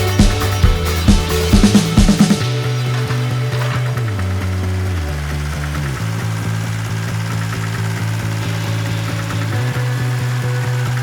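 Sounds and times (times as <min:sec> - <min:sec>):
music with bass and drums: 0:00.0 - 0:11.0.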